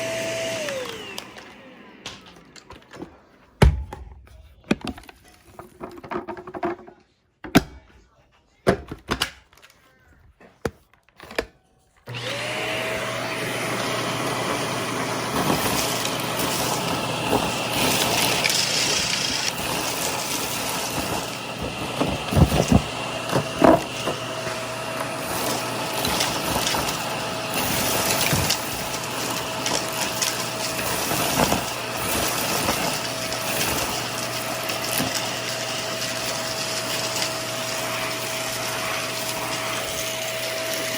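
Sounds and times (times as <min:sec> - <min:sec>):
vacuum cleaner motor whine: 0:00.0 - 0:04.2, 0:12.0 - 0:40.9.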